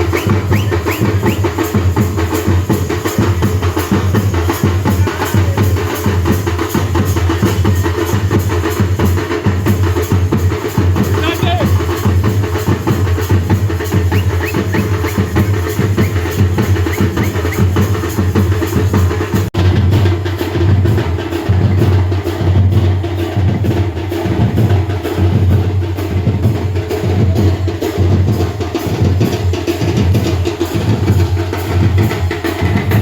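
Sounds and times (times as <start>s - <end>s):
rhythmic heavy drumming: 0.0s - 33.0s.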